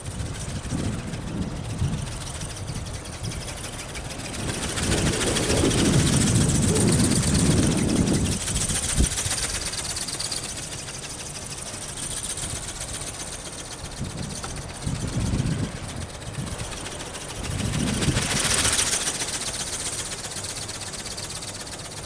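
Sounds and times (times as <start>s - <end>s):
wind buffeting microphone: 0.0s - 19.3s
faint high motor whine: 0.0s - 22.0s.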